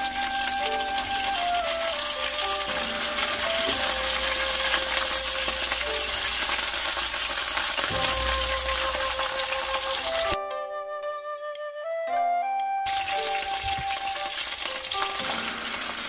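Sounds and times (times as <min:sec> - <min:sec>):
food sizzling in hot oil: 0:00.0 - 0:10.4, 0:12.9 - 0:16.0
background music with held notes: 0:00.0 - 0:16.0.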